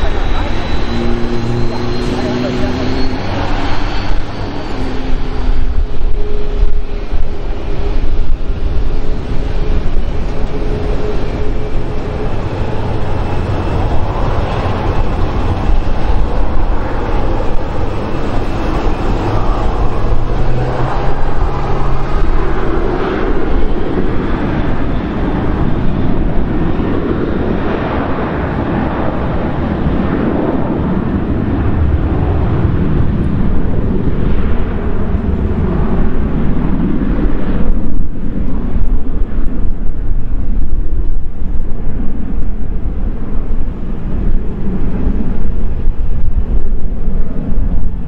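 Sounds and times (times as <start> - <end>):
jet engines taxiing: 0.0 - 48.0
wind on microphone: 0.0 - 48.0.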